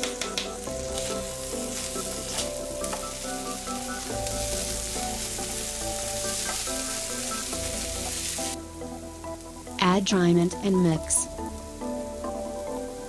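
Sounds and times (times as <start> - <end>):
rice sizzling in hot oil: 0.0 - 13.0.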